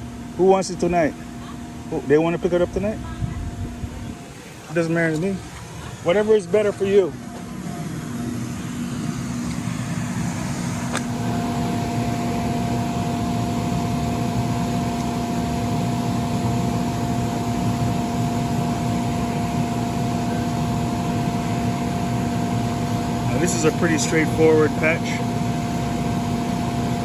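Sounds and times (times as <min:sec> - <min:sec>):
inflator blower droning: 0:00.0 - 0:27.0.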